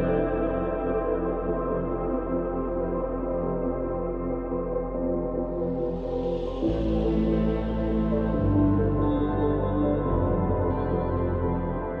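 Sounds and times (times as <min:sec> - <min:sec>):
soft ambient synth music: 0:00.0 - 0:12.0.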